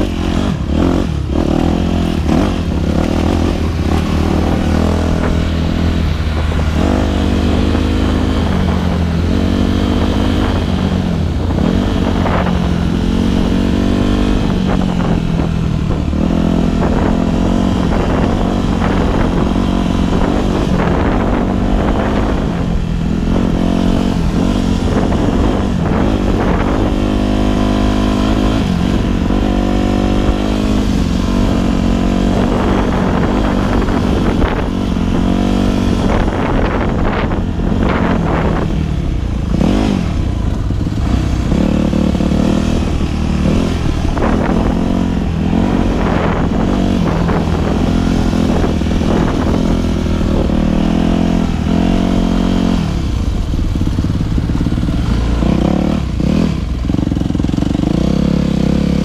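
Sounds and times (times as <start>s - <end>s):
dirt bike engine revving: 0.0s - 59.0s
wind rumble on microphone: 0.0s - 59.0s.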